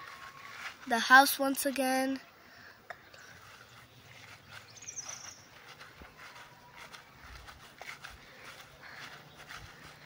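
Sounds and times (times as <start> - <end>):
footsteps on dirt path: 0.0 - 10.0.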